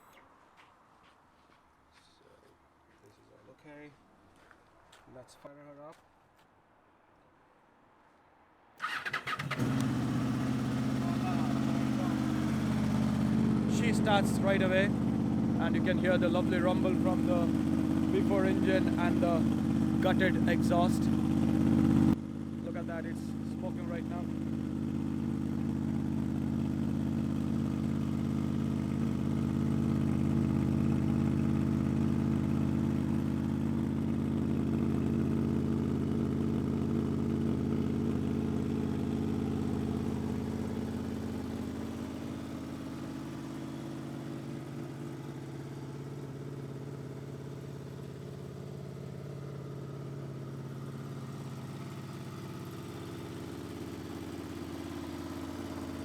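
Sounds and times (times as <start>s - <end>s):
motorcycle engine idling: 8.9s - 56.0s.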